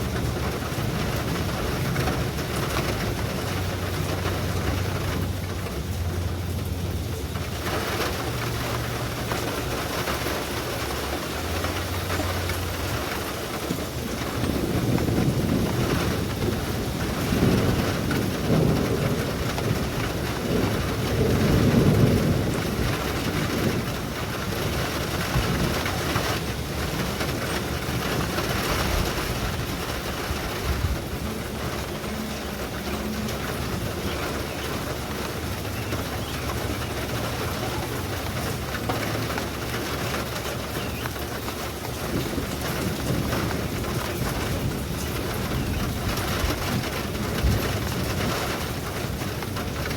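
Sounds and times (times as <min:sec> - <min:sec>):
steady rain: 0:00.0 - 0:49.9
thunder rumbling: 0:00.0 - 0:49.9.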